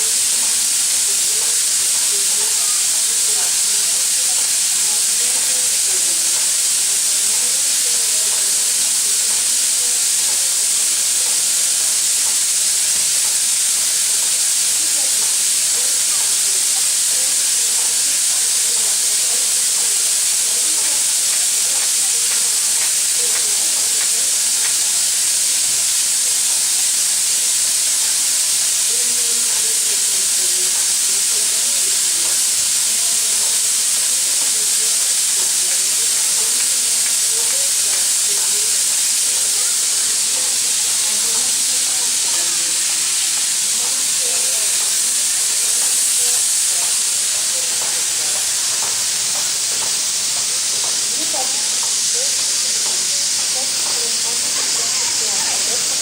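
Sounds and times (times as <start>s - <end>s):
steam locomotive blowing off steam: 0.0s - 56.0s.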